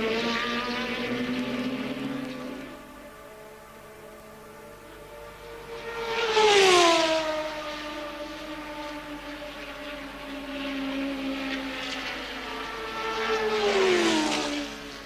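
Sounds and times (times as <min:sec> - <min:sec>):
racing car passing: 0:00.0 - 0:15.0.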